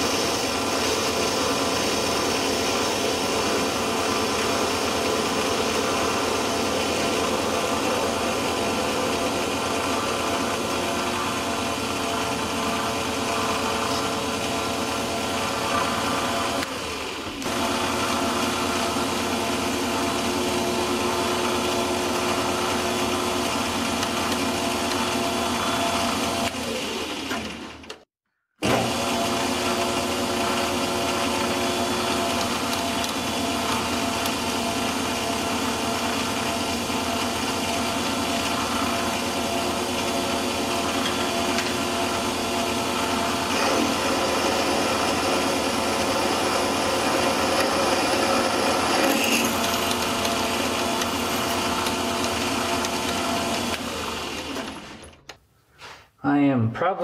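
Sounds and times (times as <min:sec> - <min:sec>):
drill bit boring into steel: 0:00.0 - 0:27.0, 0:29.0 - 0:55.0
metal lathe motor whine: 0:00.0 - 0:27.4, 0:28.6 - 0:55.1.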